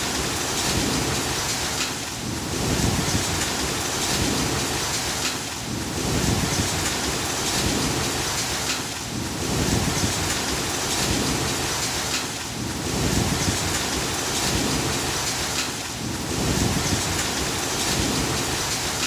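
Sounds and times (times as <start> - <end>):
continuous low rumble: 0.0 - 19.0
heavy rain downpour: 0.0 - 19.0.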